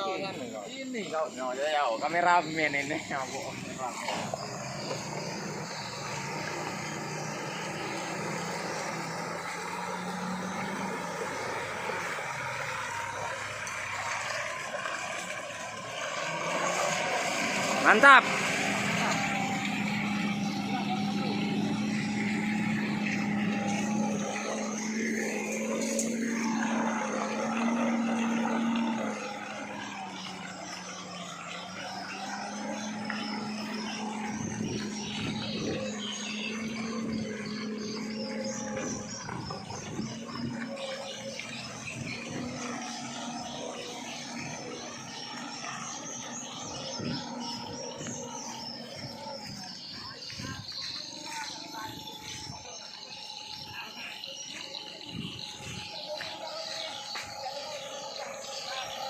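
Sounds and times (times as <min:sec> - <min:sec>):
truck engine under load: 0:00.0 - 0:59.0.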